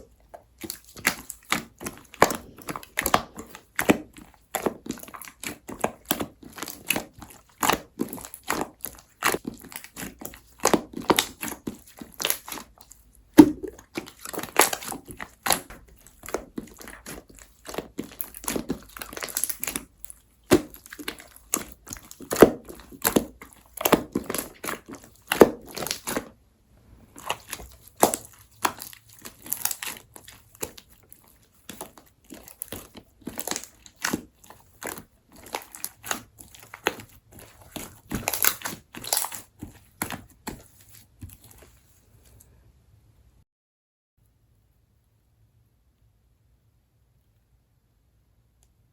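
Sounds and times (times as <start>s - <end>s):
slime squished by hand: 0.0s - 26.4s, 27.1s - 41.9s.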